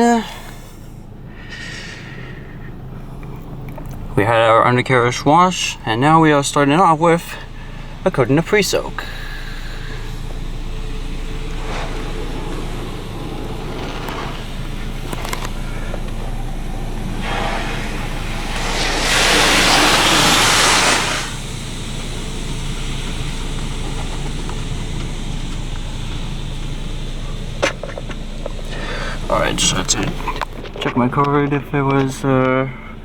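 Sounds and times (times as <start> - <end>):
car wash spray hissing: 0.0 - 33.0
steady low hum: 0.0 - 33.0.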